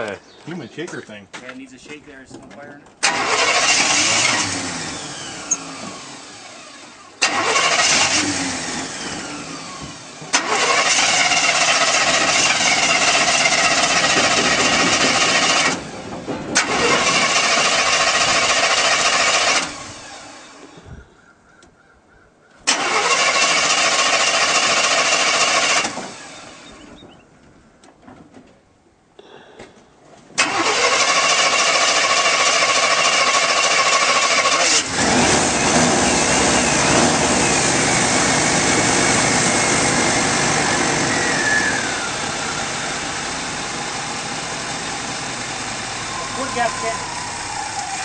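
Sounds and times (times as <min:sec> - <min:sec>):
truck engine cranking and firing: 0:01.6 - 0:20.9, 0:22.6 - 0:28.5, 0:30.3 - 0:48.0.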